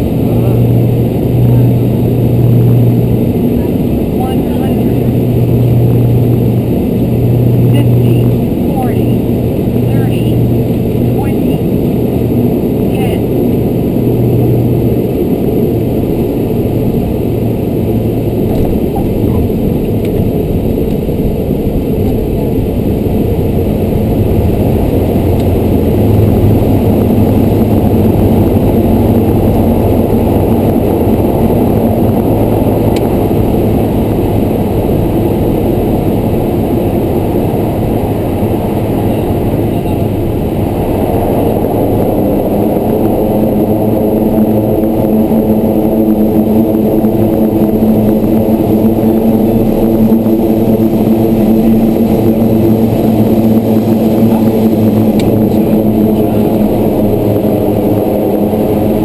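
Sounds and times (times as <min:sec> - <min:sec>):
higher steady droning notes: 0:00.0 - 0:59.0
low propeller hum: 0:00.0 - 0:59.0
turboprop engines droning: 0:00.0 - 0:59.0.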